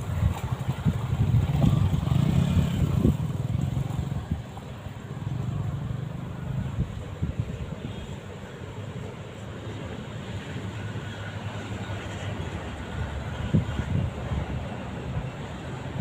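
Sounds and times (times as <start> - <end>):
traffic crossing bridge: 0.0 - 16.0.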